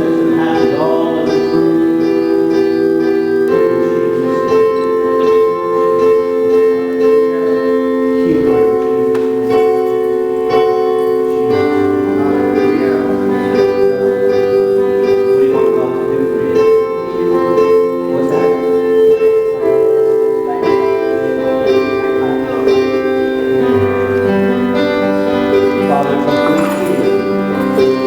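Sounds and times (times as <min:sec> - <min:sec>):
soft sustained keyboard chords: 0:00.0 - 0:28.0.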